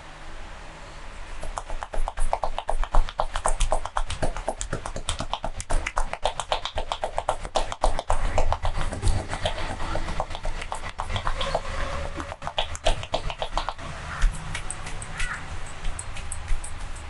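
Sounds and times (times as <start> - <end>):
hands tapping and slapping on body: 1.4 - 11.6, 12.2 - 17.0.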